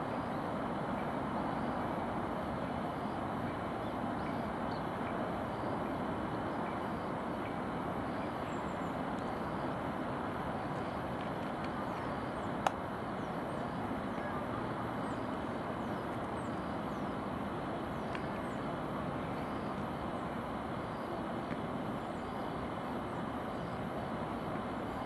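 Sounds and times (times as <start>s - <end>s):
distant city traffic: 0.0s - 25.0s.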